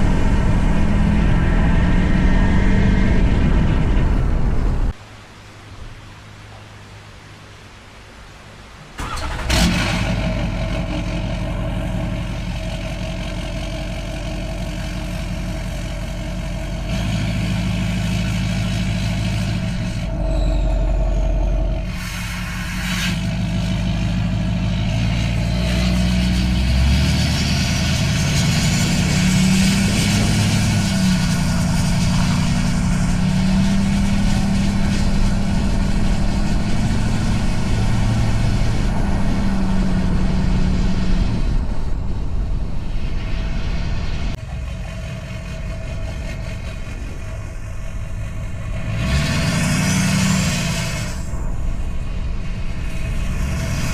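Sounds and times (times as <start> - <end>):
loud diesel truck engine: 0.0 - 4.9, 9.0 - 42.4, 44.0 - 53.9.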